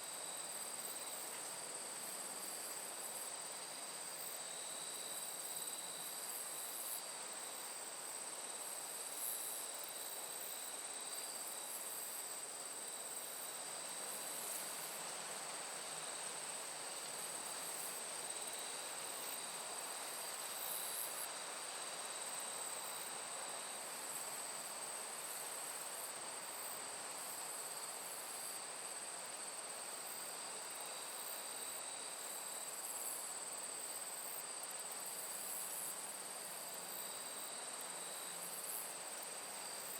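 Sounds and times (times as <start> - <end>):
soft even hiss: 0.0 - 39.9.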